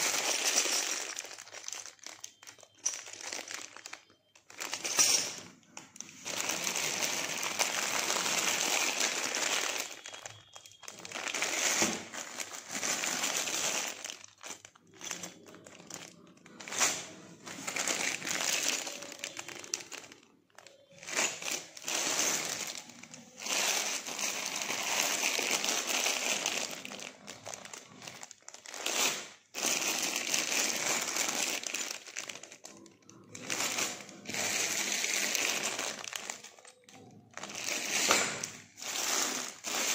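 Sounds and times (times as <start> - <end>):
plastic bags crinkling: 0.0 - 39.9.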